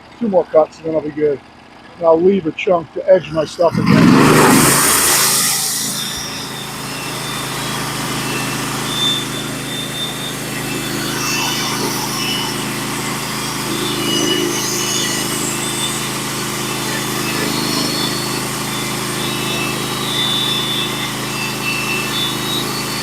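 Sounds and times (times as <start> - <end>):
band saw cutting log: 0.0 - 23.0
small gas engine running: 0.0 - 23.0.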